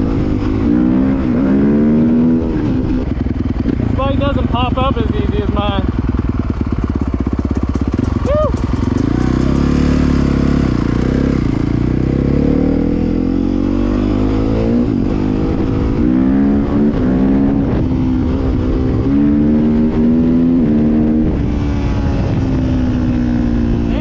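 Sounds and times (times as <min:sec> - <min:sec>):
dirt bike engine accelerating: 0:00.0 - 0:24.0.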